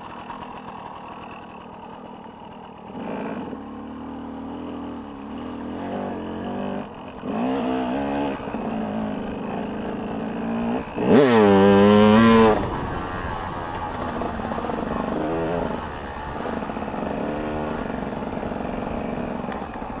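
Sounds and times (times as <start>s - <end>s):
motocross bike engines revving: 0.0s - 20.0s
motorbike passing close: 0.0s - 20.0s.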